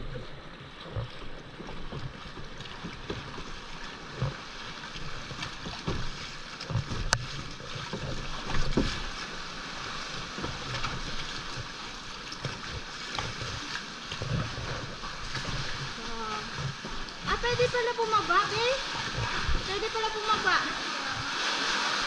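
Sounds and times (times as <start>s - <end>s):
seawater lapping against rock: 0.0s - 22.0s.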